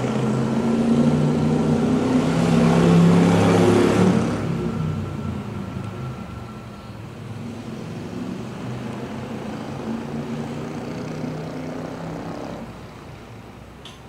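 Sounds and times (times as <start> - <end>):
low engine drone: 0.0 - 13.4.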